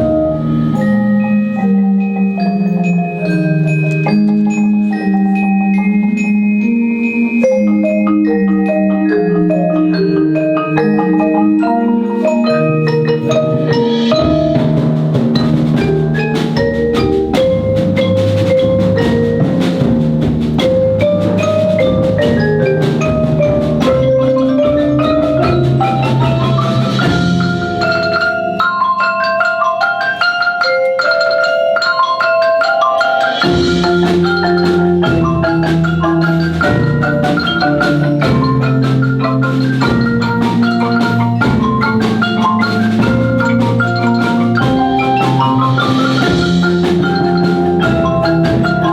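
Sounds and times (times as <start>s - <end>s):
mallet instruments playing notes: 0.0s - 48.9s.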